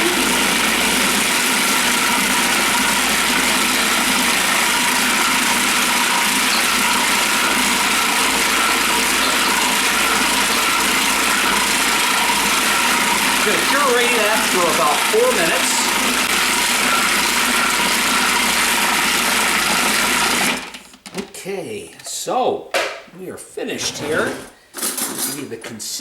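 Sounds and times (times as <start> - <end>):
food processor whirring: 0.0 - 21.0.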